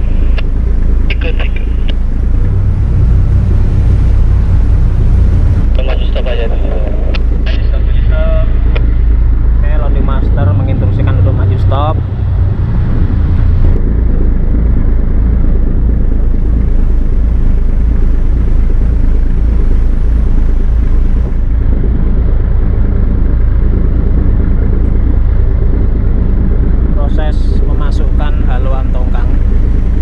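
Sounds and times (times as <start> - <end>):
boat diesel engine rumbling: 0.0 - 30.0.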